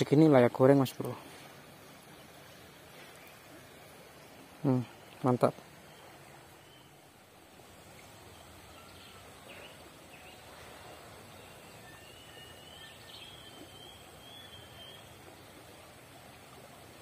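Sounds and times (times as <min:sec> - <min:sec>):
birds chirping: 0:00.0 - 0:16.3.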